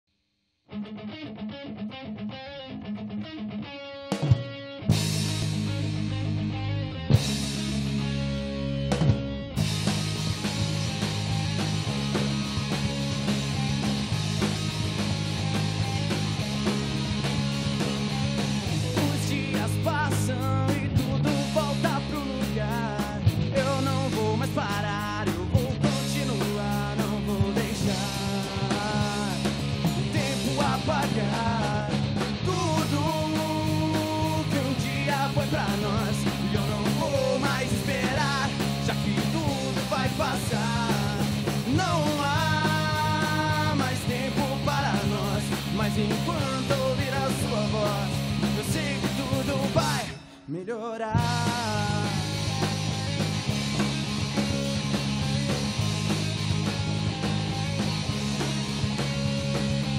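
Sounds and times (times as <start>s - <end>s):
live rock band playing: 0.7s - 50.5s, 51.2s - 59.9s
electric guitars: 0.7s - 59.9s
electric bass: 0.9s - 50.4s, 51.2s - 59.9s
drum kit: 4.1s - 50.4s, 51.2s - 59.9s.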